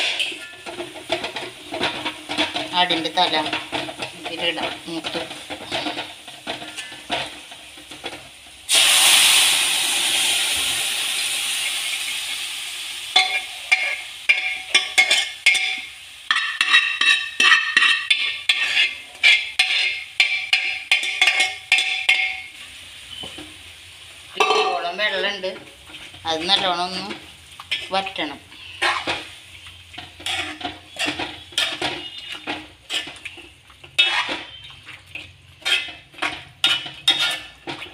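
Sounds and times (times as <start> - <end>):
spoon scraping a pan with clinks: 0.0 - 8.3, 13.2 - 23.5, 24.4 - 24.9, 25.8 - 37.9
loud sizzle in a pan: 0.0 - 37.9.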